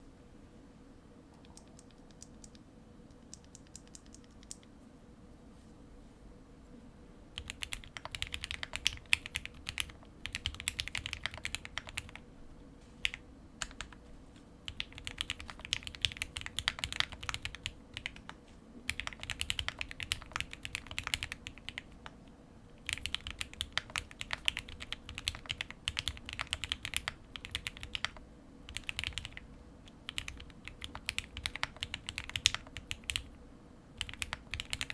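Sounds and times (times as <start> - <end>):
typing on mechanical keyboard: 1.4 - 4.7, 7.4 - 12.2, 13.0 - 14.0, 14.7 - 22.2, 22.8 - 33.3, 34.0 - 34.9.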